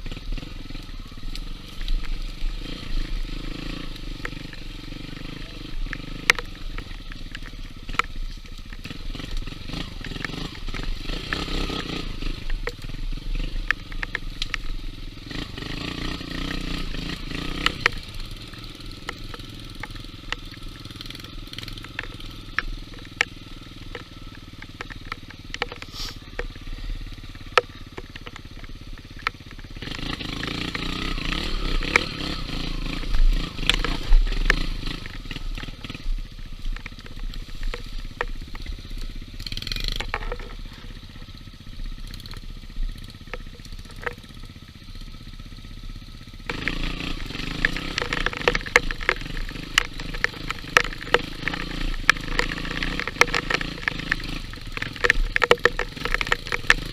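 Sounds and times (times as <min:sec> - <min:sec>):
motorcycle engine: 0:00.0 - 0:56.9
sharp clicks and knocks: 0:01.3 - 0:41.2, 0:42.0 - 0:44.5, 0:46.5 - 0:56.9.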